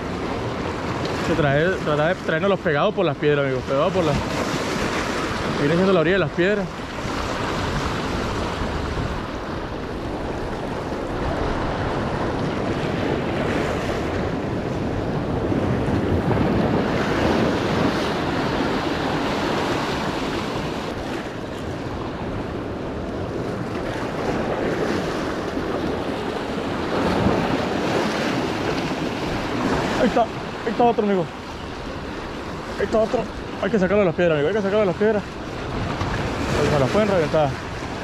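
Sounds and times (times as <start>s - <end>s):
sea surf against rocks: 0.0s - 38.0s
wind buffeting the microphone: 0.0s - 38.0s.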